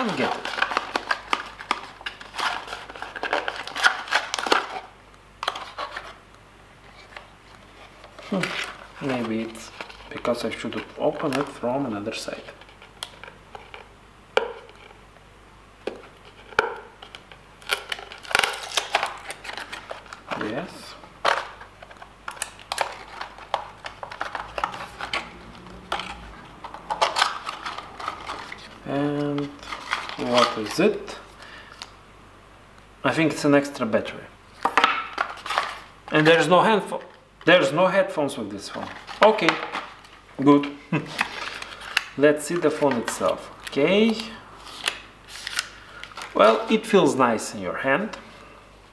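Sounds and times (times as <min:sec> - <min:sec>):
packaging rustling and clicking: 0:00.0 - 0:06.2, 0:06.9 - 0:11.6, 0:12.2 - 0:15.0, 0:15.9 - 0:20.6, 0:21.2 - 0:31.9, 0:34.6 - 0:37.5, 0:38.7 - 0:46.7.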